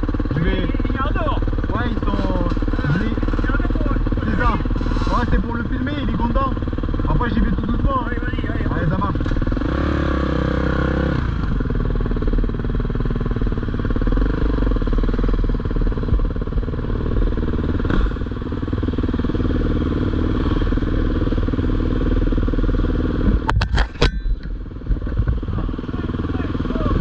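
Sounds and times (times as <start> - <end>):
dirt bike engine idling: 0.0 - 27.0.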